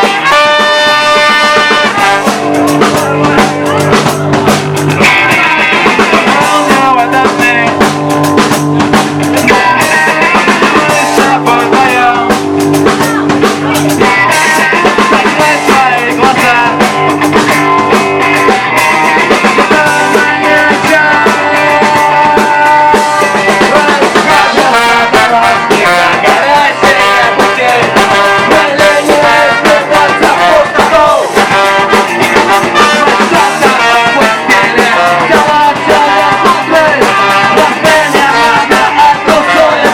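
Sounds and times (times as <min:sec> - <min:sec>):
drums: 0:00.0 - 0:39.9
guitar: 0:00.0 - 0:39.9
person singing: 0:00.0 - 0:39.9.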